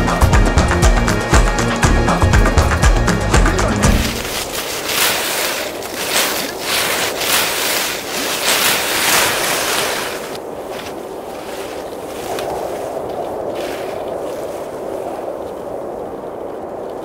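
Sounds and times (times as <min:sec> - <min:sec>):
gusting snowstorm wind: 0:00.2 - 0:17.0.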